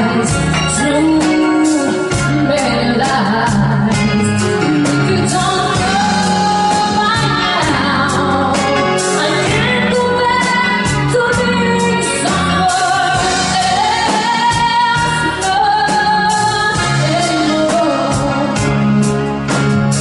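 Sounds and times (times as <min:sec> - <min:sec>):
woman singing: 0:00.0 - 0:18.8
band playing pop song: 0:00.0 - 0:20.0.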